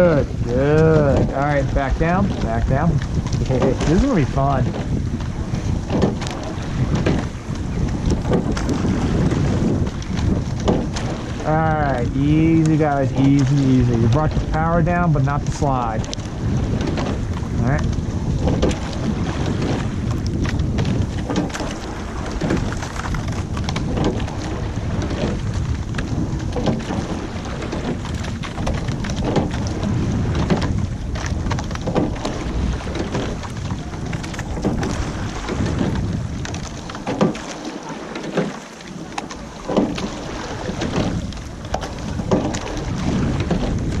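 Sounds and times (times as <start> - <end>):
water lapping and splashing: 0.0 - 44.0
wind buffeting microphone: 0.0 - 44.0.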